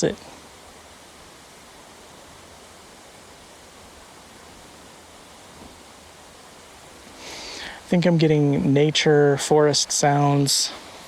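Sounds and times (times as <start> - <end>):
forest background hiss: 0.0 - 11.0.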